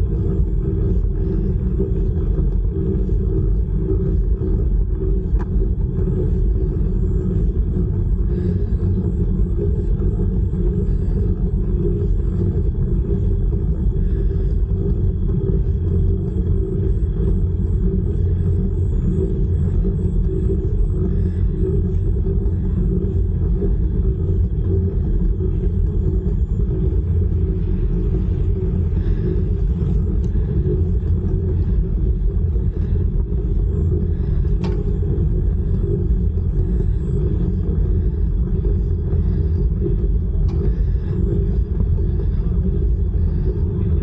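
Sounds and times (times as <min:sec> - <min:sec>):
steady hum: 0:00.0 - 0:44.0
wind rumbling over microphone: 0:00.0 - 0:44.0.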